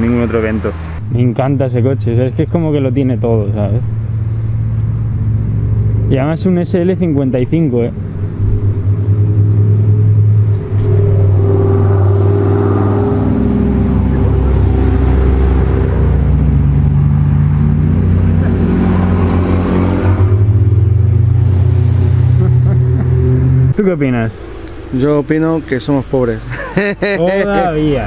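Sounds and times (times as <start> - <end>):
car engine running: 1.8 - 28.0.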